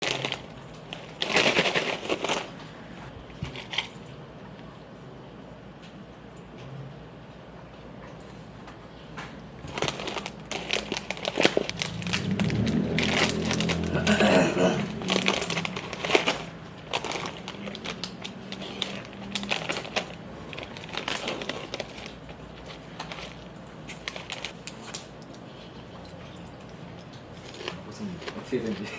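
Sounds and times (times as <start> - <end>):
rustling and handling noise: 0.0 - 4.7, 7.6 - 28.9.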